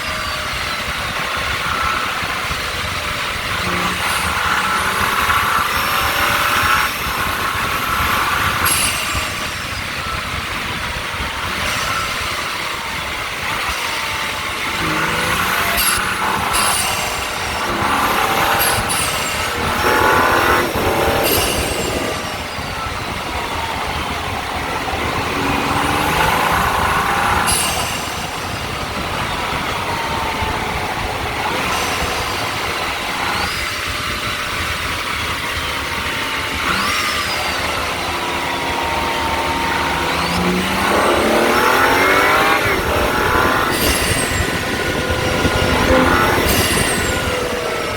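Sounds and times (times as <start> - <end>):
car engine revving: 0.0 - 47.9
high rising turbo whistle: 0.0 - 47.9.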